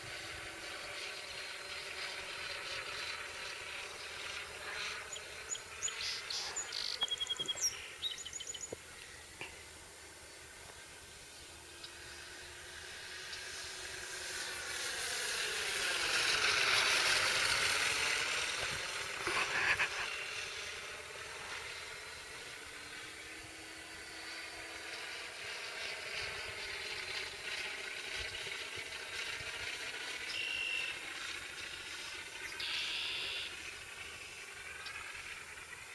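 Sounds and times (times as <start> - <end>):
model airplane propeller and motor: 0.0 - 35.9
simulated piston engine drone: 0.0 - 35.9.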